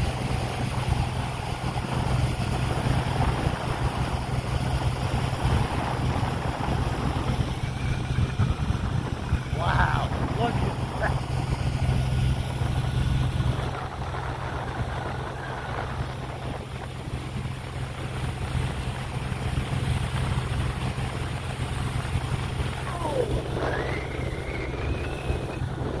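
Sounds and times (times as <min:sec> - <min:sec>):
motorboat engine hum: 0:00.0 - 0:26.0
water noise: 0:00.0 - 0:26.0
wind: 0:00.0 - 0:26.0.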